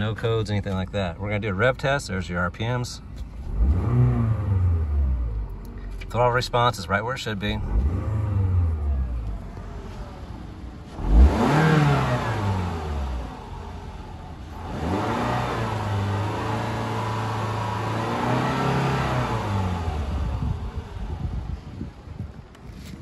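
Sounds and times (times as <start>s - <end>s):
car engine revving: 3.2s - 21.8s.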